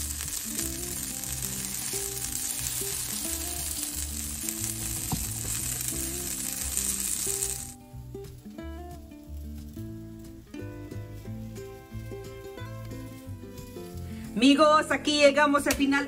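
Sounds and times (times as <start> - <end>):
food sizzling on griddle: 0.0 - 14.4
background music low notes: 0.0 - 16.0.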